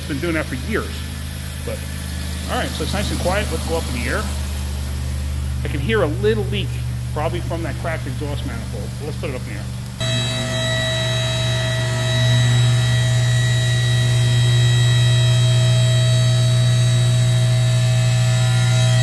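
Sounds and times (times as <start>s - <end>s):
hydraulic pump motor humming: 0.0s - 19.0s.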